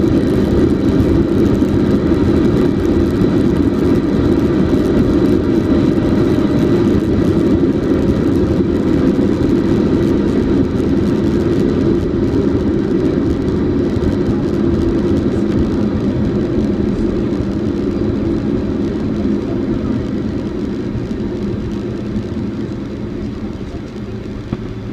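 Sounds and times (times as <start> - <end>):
jet engines rumbling: 0.0 - 24.9
wheels rolling on runway: 0.0 - 24.9.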